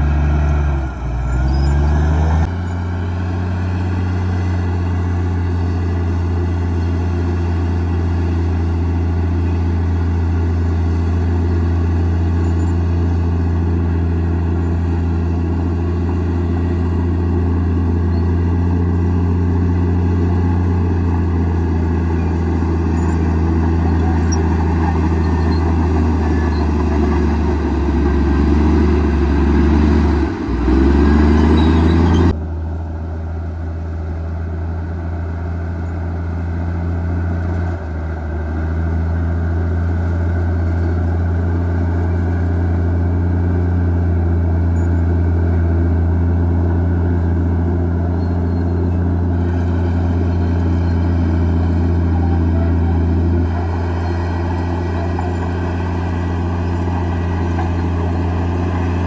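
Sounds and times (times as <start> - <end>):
bulldozer diesel engine humming: 0.0 - 59.0.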